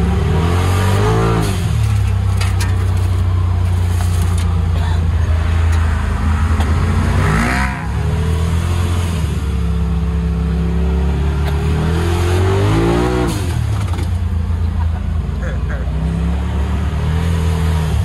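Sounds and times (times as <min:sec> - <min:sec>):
off-road vehicle engine under load: 0:00.0 - 0:18.0.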